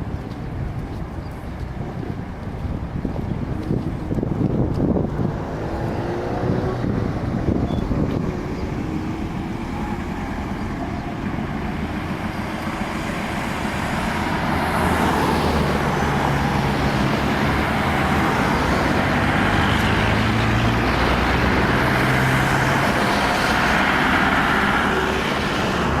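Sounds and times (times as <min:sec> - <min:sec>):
road noise: 0:00.0 - 0:26.0
vehicle engine running: 0:02.6 - 0:26.0.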